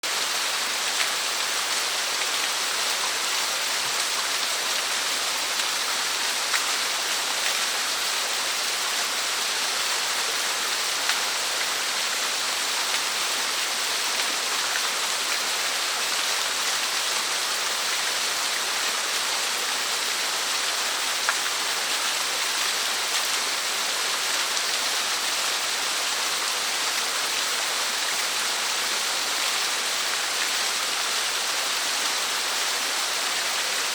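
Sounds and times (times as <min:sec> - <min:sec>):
small waterfall falling into pool: 0:00.0 - 0:33.9.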